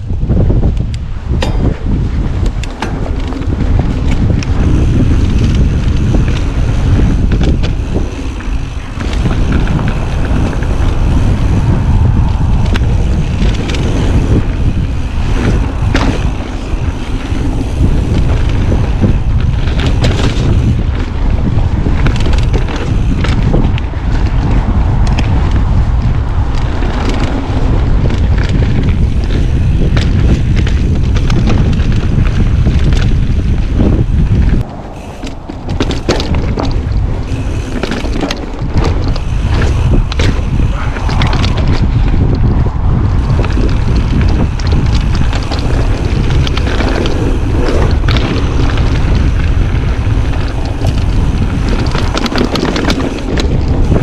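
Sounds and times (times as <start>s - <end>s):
bike knocking and rattling: 0.0s - 54.0s
bike tyres rumbling on trail: 0.0s - 54.0s
wind buffeting microphone: 0.0s - 54.0s.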